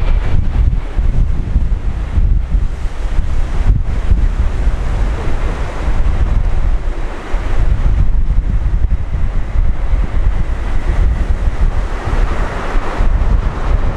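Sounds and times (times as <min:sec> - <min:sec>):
gusty wind buffeting microphone: 0:00.0 - 0:13.9.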